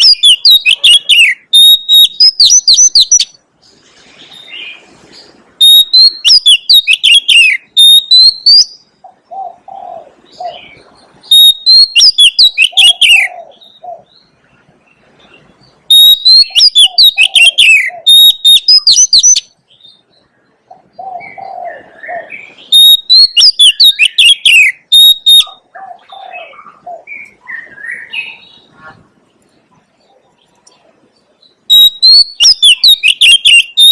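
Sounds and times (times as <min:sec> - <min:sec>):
bird singing whistles and trills: 0:00.0 - 0:03.4, 0:04.3 - 0:28.8, 0:31.4 - 0:33.9.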